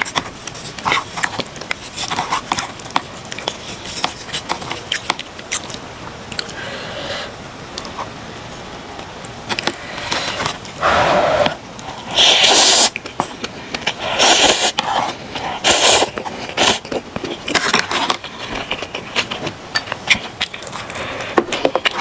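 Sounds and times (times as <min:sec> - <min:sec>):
wet chewing clicks: 0:00.0 - 0:06.6, 0:09.0 - 0:22.0
noodles slurping: 0:00.0 - 0:08.0, 0:09.5 - 0:22.0.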